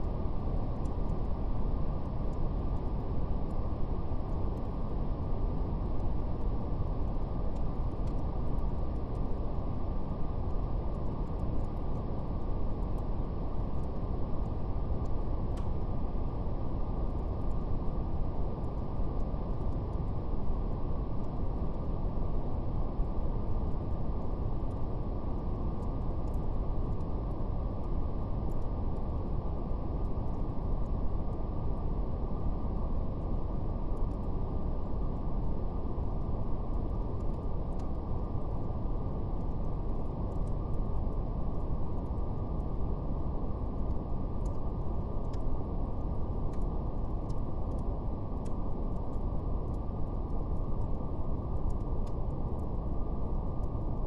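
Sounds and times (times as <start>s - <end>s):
fire crackles: 0.1s - 54.0s.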